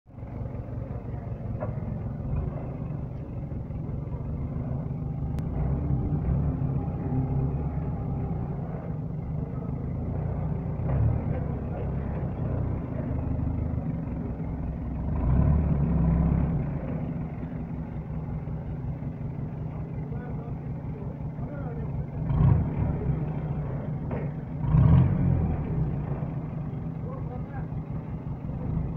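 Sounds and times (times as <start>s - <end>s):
forklift engine running: 0.1s - 28.9s.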